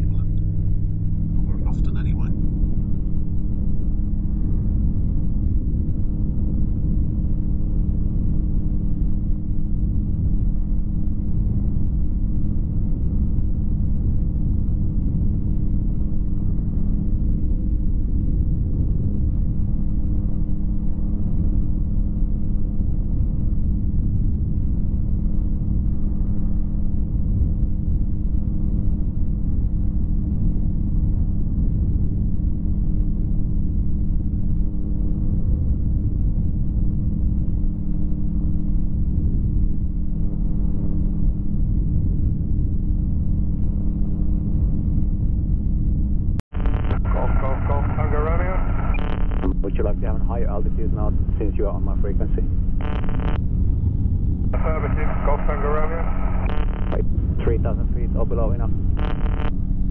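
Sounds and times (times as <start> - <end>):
aircraft engine drone: 0.0 - 59.9.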